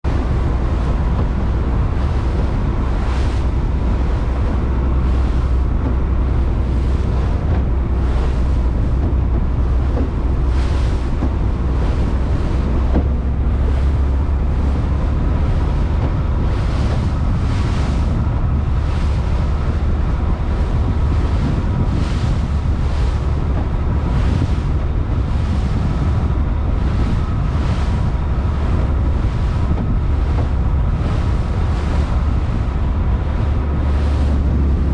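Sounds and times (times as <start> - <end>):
boat engine drone: 0.0 - 34.9
water splashing along hull: 0.0 - 34.9
wind on microphone: 0.0 - 34.9.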